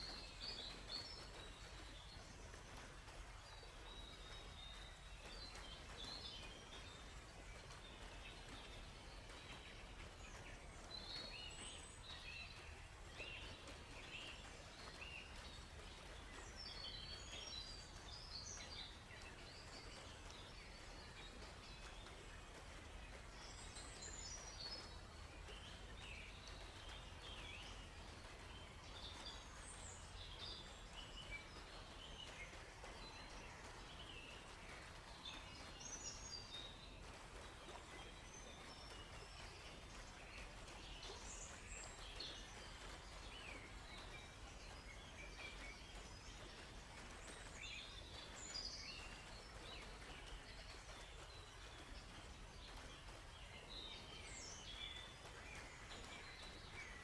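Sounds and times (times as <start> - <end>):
low background noise: 0.0 - 57.0
songbirds chirping: 0.0 - 57.0.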